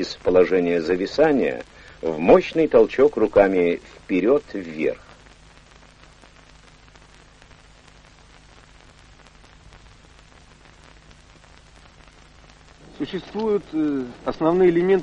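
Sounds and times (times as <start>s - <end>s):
faint low hum: 0.0s - 15.0s
film soundtrack hiss and crackle: 0.0s - 15.0s.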